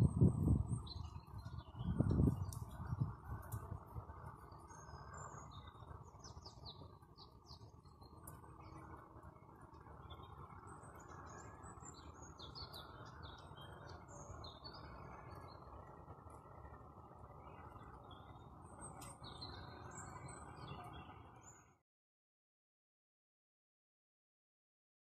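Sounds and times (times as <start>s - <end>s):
songbirds chirping and twittering: 0.0s - 21.8s.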